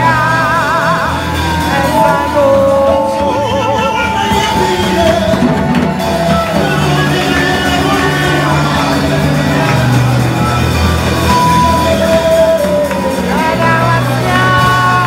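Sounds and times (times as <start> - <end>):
gospel singer's voice: 0.0 - 15.0
keyboard and band backing: 0.0 - 15.0.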